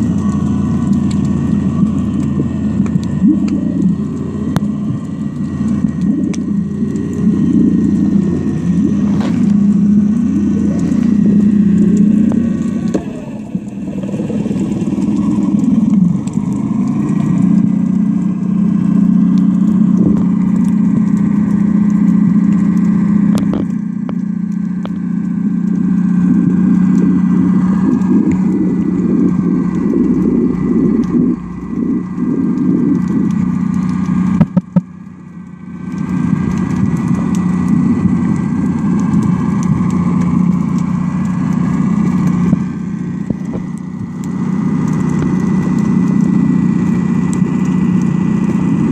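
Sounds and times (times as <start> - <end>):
crackling: 0.0 - 48.9
underwater mechanical hum: 0.0 - 48.9.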